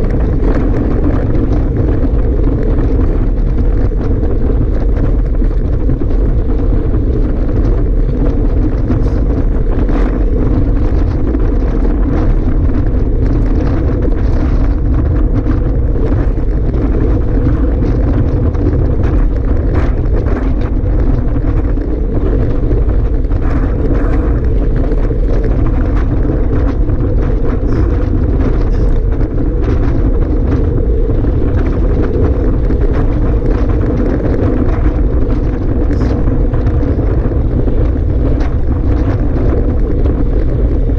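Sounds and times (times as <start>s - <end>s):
faint crackles: 0.0s - 40.9s
wind blowing over microphone: 0.0s - 40.9s.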